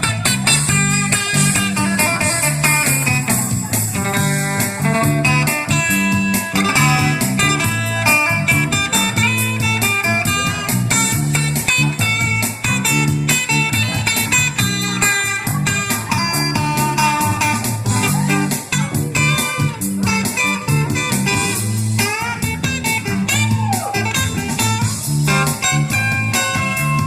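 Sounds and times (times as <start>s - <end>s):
bass line: 0.0s - 27.0s
guitar: 0.0s - 27.0s
steady beat: 0.0s - 27.0s.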